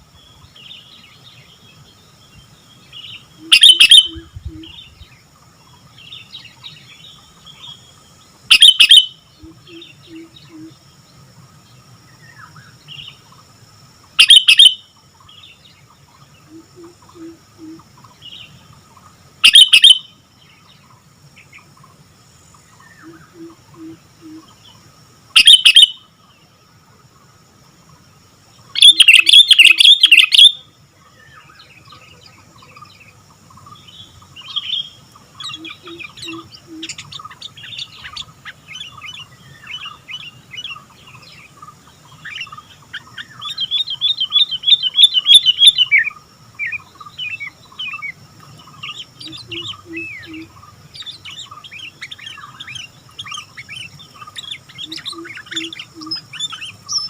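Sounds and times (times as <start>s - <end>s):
bulbul singing: 0.0s - 10.8s, 14.0s - 21.9s, 22.7s - 26.2s, 28.6s - 57.0s.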